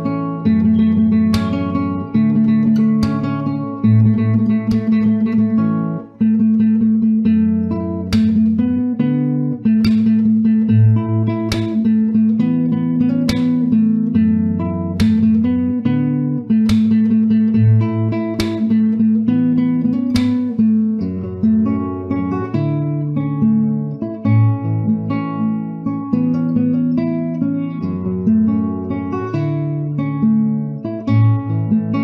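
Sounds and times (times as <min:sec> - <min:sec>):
plucked string instrument melody: 0:00.0 - 0:32.0.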